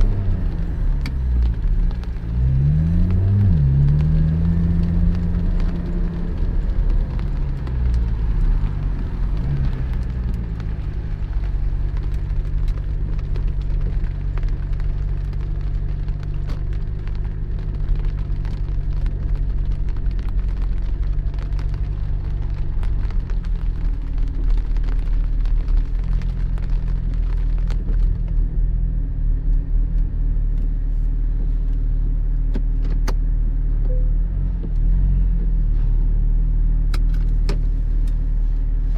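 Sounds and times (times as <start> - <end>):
car engine running: 0.0 - 36.2.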